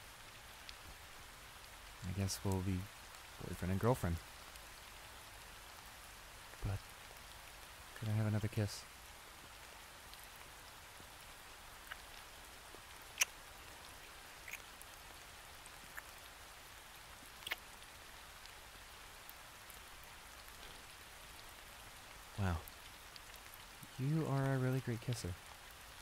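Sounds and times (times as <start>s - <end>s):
light rain hissing: 0.0s - 26.0s.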